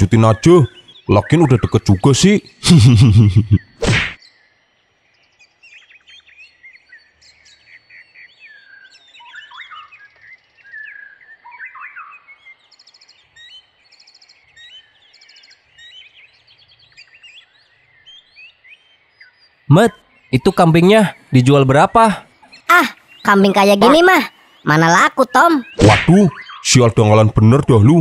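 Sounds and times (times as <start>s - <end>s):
birds chirping and trilling: 0.0s - 28.0s.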